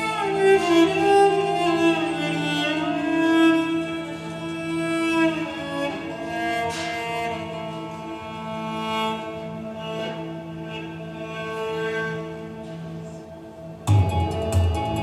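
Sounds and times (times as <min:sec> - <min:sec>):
violin and cello playing: 0:00.0 - 0:15.0.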